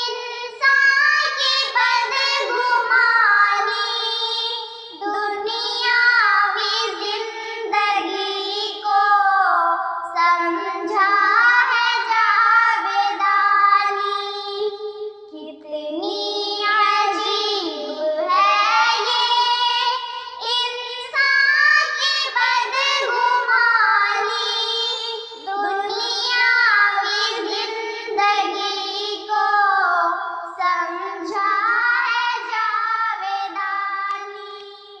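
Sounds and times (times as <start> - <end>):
girls singing together: 0.0 - 35.0.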